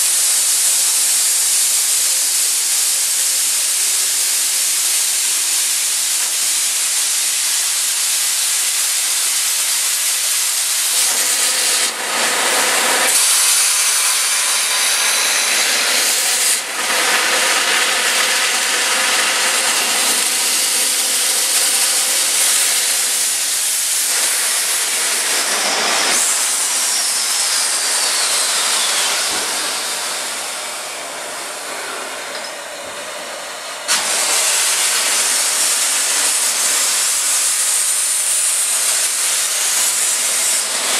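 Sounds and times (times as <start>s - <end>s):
steam locomotive venting steam: 0.0s - 40.9s.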